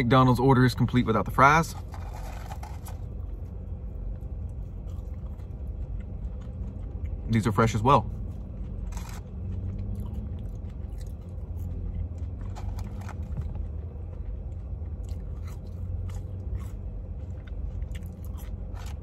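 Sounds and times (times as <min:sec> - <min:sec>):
low hum: 0:00.0 - 0:19.0
person chewing fries: 0:01.6 - 0:19.0.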